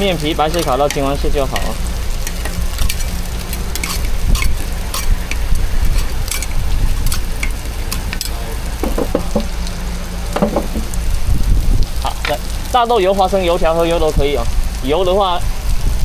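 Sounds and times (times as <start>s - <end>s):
pancakes sizzling in oil: 0.0s - 16.0s.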